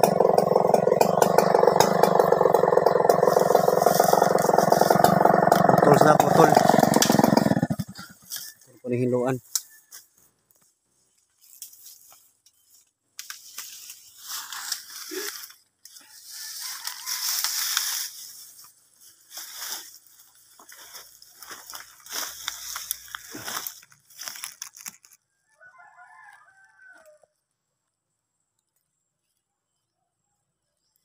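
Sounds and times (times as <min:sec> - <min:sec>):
dry leaves and brush rustling: 0:00.0 - 0:25.2.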